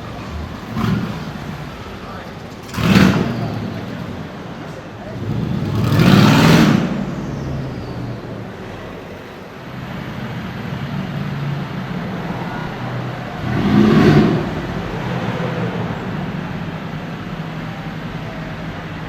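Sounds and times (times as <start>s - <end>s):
car passing by loudly: 0.0s - 19.0s
low engine note: 0.0s - 19.0s.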